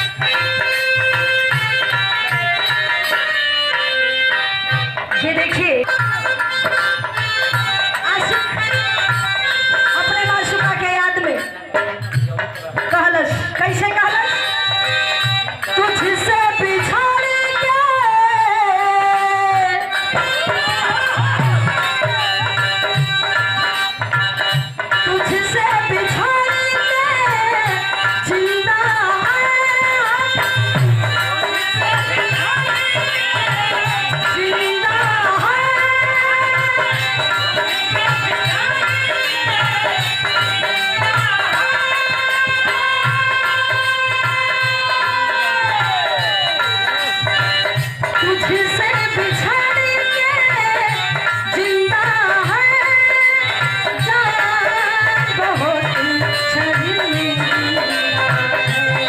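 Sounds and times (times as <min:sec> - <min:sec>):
instrumental accompaniment: 0:00.0 - 0:59.0
hand drum rhythm: 0:04.7 - 0:59.0.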